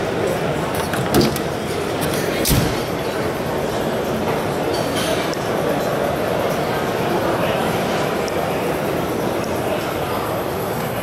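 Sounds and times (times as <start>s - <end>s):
busy exhibition hall din: 0.0s - 11.0s.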